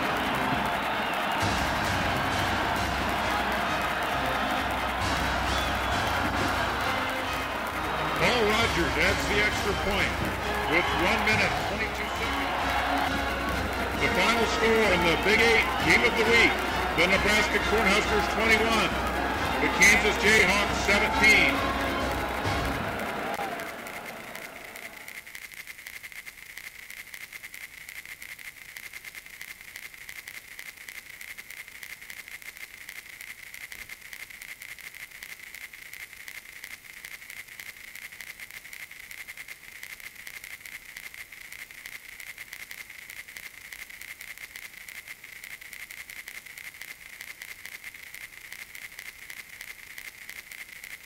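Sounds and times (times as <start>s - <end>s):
film soundtrack surface noise: 0.0s - 51.0s.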